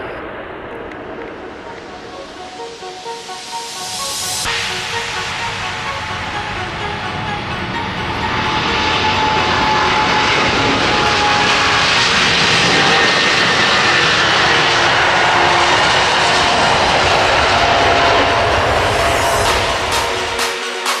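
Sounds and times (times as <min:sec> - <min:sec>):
jet engines roaring at takeoff: 0:00.0 - 0:20.7.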